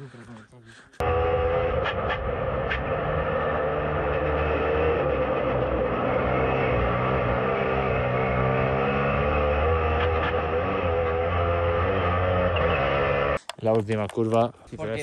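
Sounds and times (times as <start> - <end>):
kart engine running: 1.0 - 13.4.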